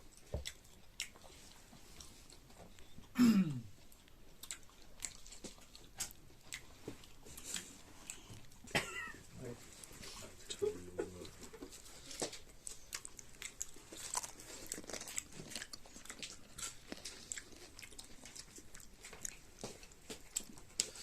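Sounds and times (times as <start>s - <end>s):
crunchy chewing: 0.0s - 3.1s, 3.7s - 21.0s.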